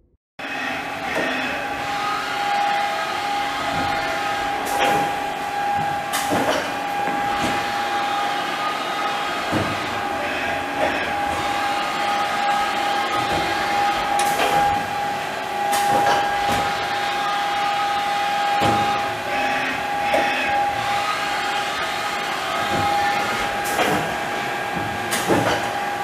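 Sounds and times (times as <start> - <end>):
machine hum with whine: 0.0 - 26.0.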